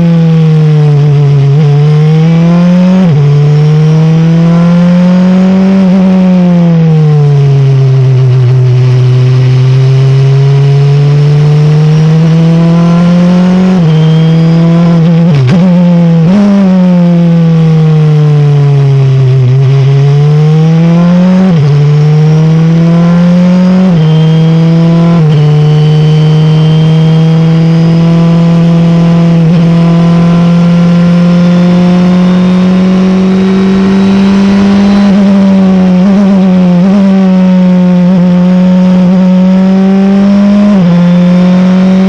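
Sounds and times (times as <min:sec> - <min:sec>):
race car engine accelerating: 0:00.0 - 0:42.0.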